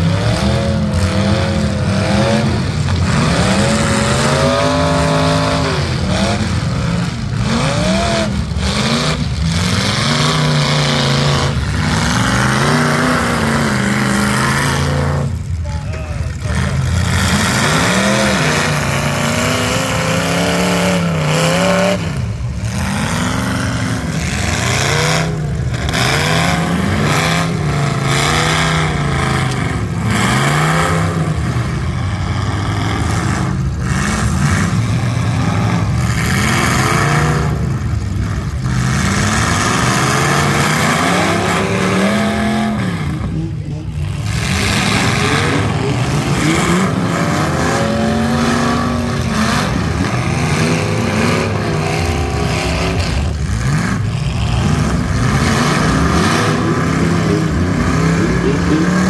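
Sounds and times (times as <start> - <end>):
car engines revving hard: 0.0 - 59.0
other engines running: 0.0 - 59.0.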